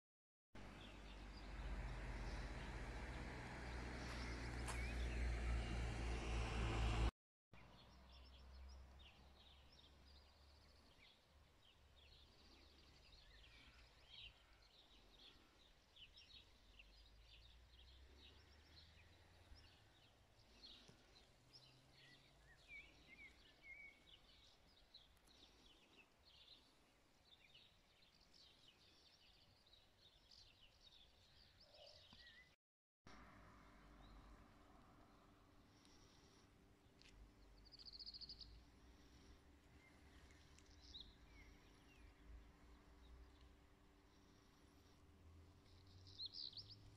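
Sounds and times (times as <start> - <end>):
small birds chirping: 0.6 - 6.4, 7.6 - 32.6, 34.0 - 46.9.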